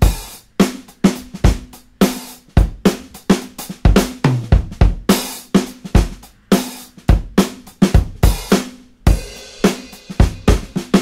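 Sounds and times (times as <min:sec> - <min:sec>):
drum-kit beat: 0:00.0 - 0:11.0.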